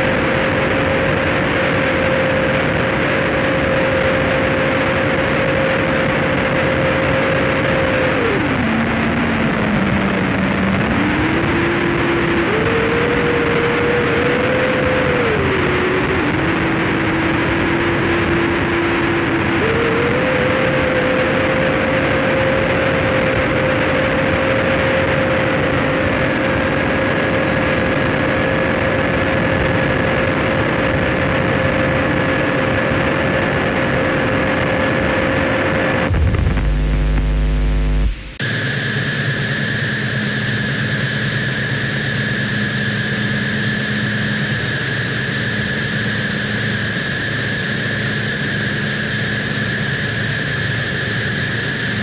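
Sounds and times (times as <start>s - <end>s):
heavy low buzz: 0.0s - 27.3s, 34.0s - 52.0s
dense distorted noise: 0.0s - 52.0s
held whining tone: 0.0s - 52.0s.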